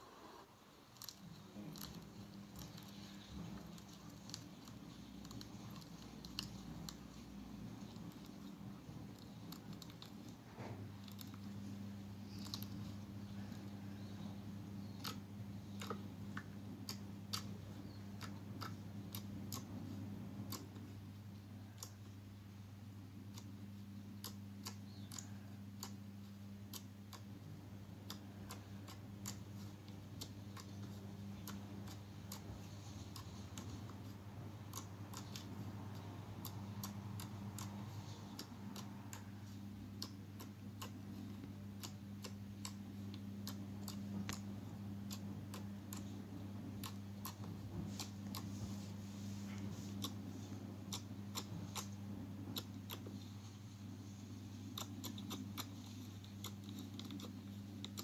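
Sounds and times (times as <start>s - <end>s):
steady low hum: 0.0s - 58.0s
light clicks and ticks: 0.9s - 20.9s, 28.0s - 48.8s, 49.6s - 58.0s.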